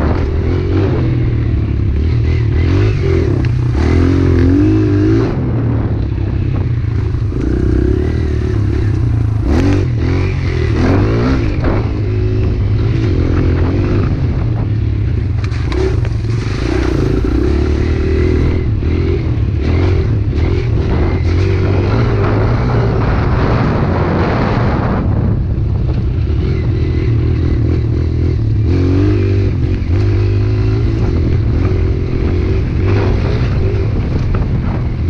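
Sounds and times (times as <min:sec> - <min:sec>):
pit bike engine revving: 0:00.0 - 0:34.8.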